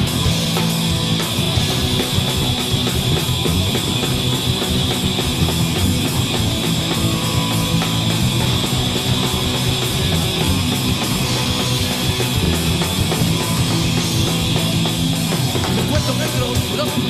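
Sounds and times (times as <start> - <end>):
bass guitar: 0.0 - 17.0
distorted electric guitars: 0.0 - 17.0
drum kit: 0.0 - 17.0.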